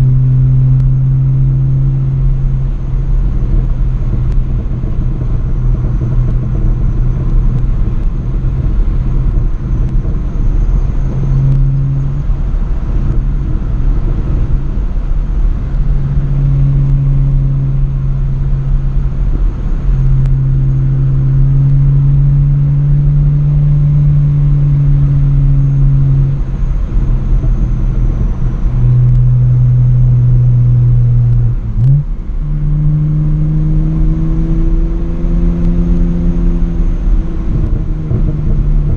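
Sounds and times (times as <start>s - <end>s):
car exhaust droning: 0.0s - 38.9s.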